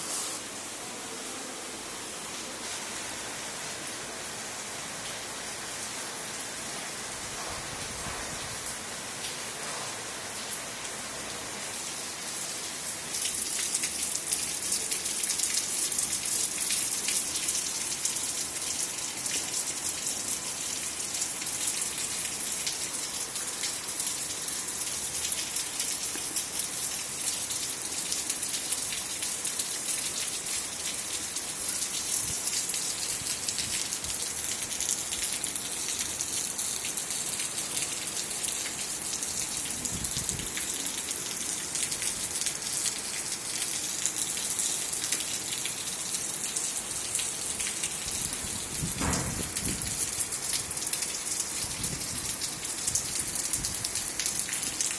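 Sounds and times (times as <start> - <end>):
rain pattering: 2.6 - 54.9.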